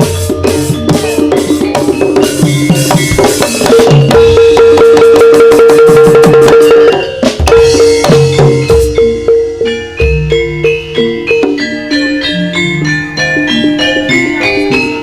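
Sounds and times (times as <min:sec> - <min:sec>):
drums and percussion fast beat: 0:00.0 - 0:15.0.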